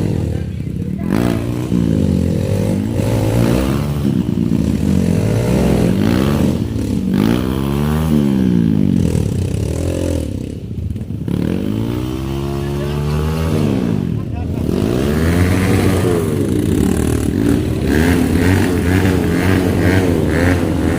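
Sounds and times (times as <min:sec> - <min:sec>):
motorcycle engines revving: 0:00.0 - 0:20.9.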